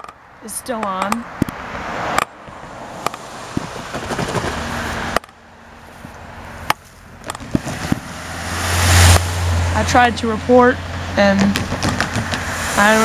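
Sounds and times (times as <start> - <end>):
road traffic: 0.0 - 13.0
wind noise: 1.0 - 5.2, 5.8 - 10.2, 10.8 - 13.0.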